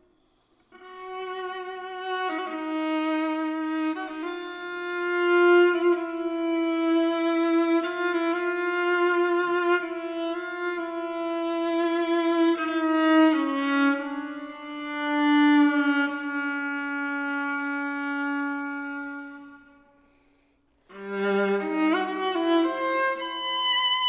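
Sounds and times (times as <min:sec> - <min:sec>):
solo viola bowed notes: 0:00.7 - 0:19.9, 0:20.8 - 0:24.0.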